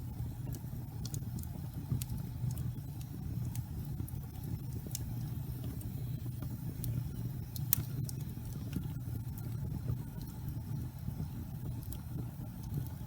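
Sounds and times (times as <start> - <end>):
low rumble of flame: 0.0 - 13.0
wood fire crackles and pops: 0.0 - 13.0.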